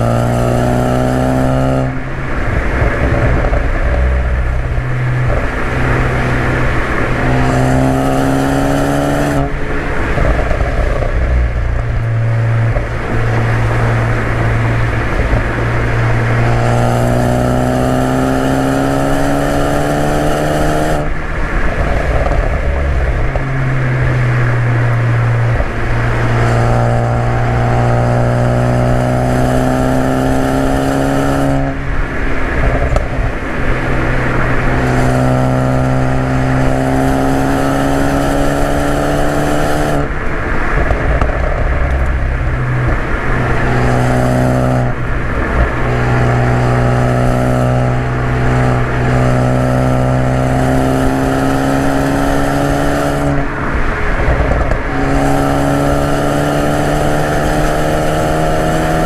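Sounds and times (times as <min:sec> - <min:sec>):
exhaust crackles and pops: 0:00.0 - 0:18.7, 0:20.6 - 0:30.8, 0:31.5 - 0:52.0, 0:52.6 - 0:58.1
car engine accelerating: 0:00.0 - 0:59.0.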